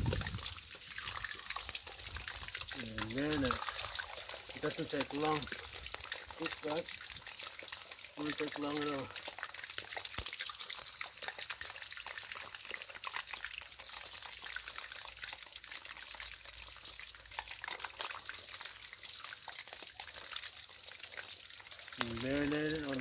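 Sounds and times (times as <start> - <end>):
deep-frying sizzle with pops: 0.0 - 23.0.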